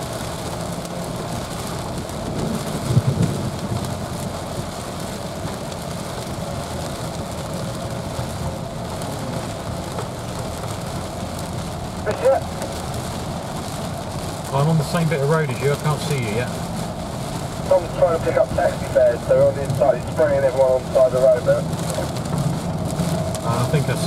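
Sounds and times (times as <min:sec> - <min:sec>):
heavy rain drumming on car: 0:00.0 - 0:24.0
tyre and road noise: 0:00.0 - 0:24.0.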